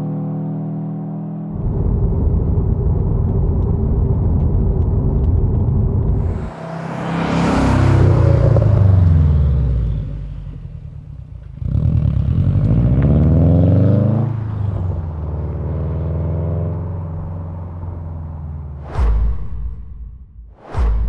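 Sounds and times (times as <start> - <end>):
car exhaust passing and accelerating: 0.0 - 21.0.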